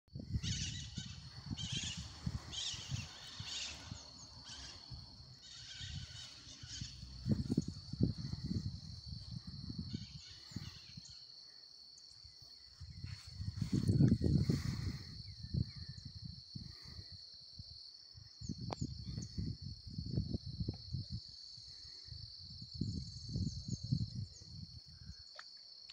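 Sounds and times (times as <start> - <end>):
wind buffeting microphone: 0.1 - 25.3
insect chirping: 0.1 - 25.9
insects droning: 0.1 - 25.9.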